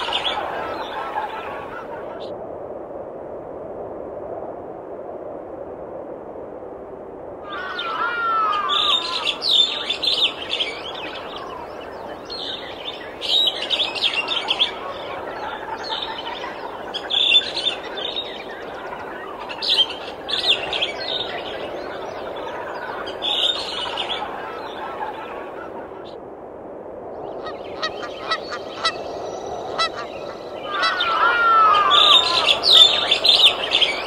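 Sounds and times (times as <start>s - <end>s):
bird warbling call: 0.0s - 2.3s, 7.5s - 26.1s, 27.4s - 34.0s
small birds chirping and trilling: 0.0s - 2.3s, 7.5s - 26.0s, 27.3s - 34.0s.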